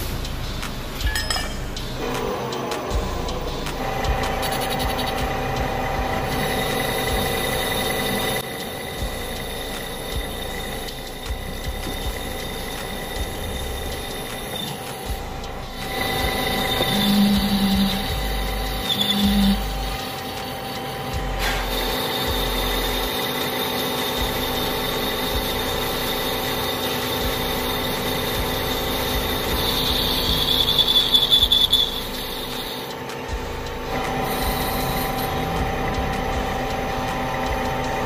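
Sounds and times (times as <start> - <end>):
metal lathe cutting whine: 0.0 - 38.0.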